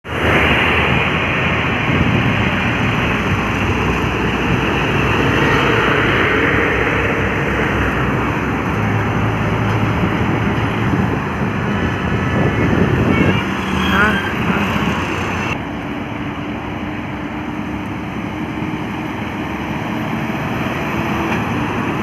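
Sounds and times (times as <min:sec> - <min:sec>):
heavy trucks on highway: 0:00.0 - 0:22.0.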